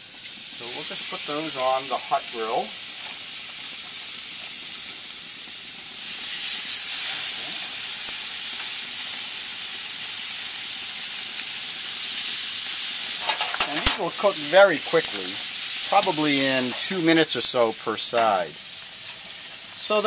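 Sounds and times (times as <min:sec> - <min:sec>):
chicken sizzling on a grill: 0:00.0 - 0:20.0.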